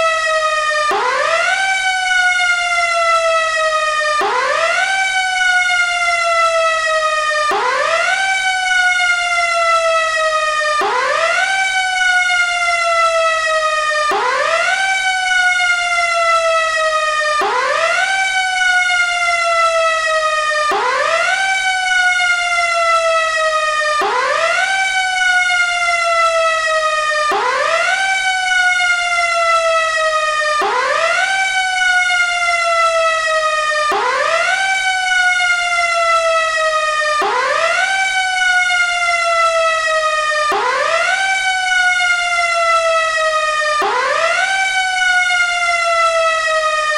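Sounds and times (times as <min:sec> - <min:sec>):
mechanical siren wailing: 0:00.0 - 0:46.9.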